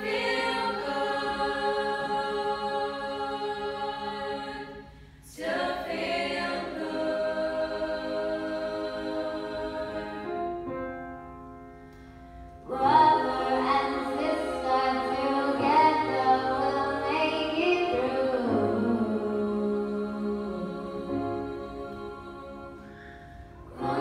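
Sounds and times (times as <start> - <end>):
girls singing in close harmony: 0.0 - 10.5, 12.6 - 23.0, 23.6 - 24.0.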